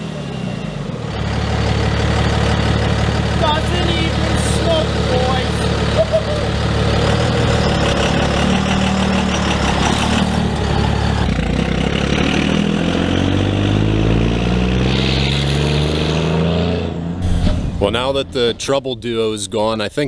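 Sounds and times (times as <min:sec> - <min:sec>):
diesel truck engine accelerating: 0:00.0 - 0:20.0.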